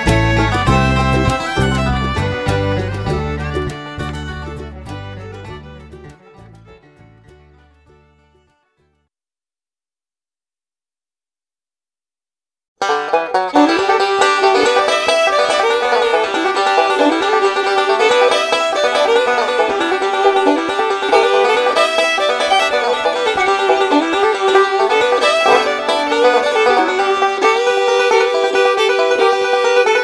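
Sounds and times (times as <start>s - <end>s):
lively plucked-string music: 0.0s - 9.0s, 12.8s - 30.0s.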